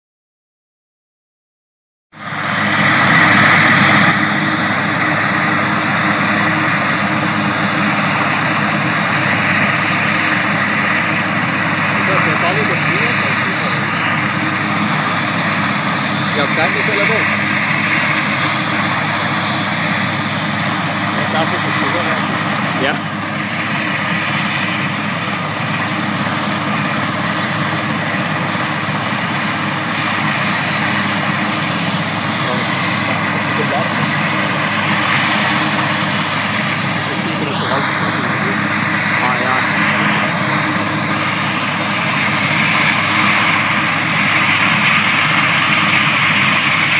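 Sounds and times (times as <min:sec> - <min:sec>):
helicopter turbine and rotor noise: 0:02.2 - 0:46.9
high whine: 0:02.2 - 0:46.9.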